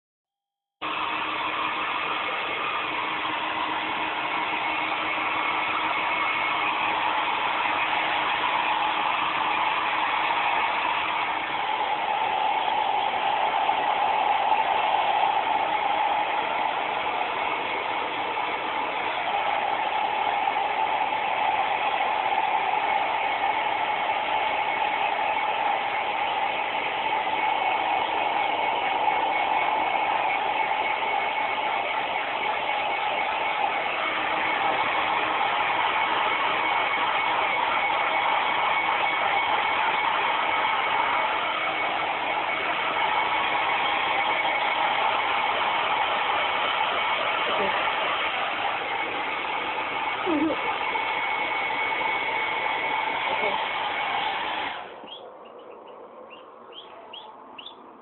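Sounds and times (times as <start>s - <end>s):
hair dryer blowing: 0.6s - 58.0s.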